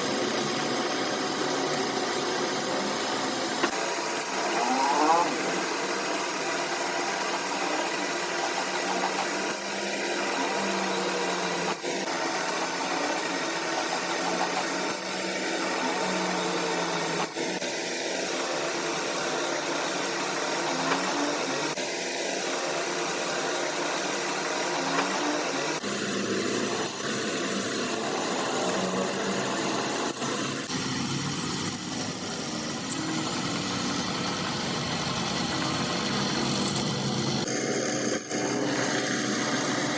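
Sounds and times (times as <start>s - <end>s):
metalworking lathe running: 5.4s - 39.9s.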